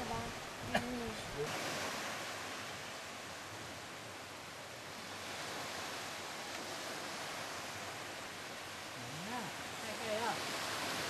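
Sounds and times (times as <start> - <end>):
small waves washing on a beach: 0.0 - 11.0.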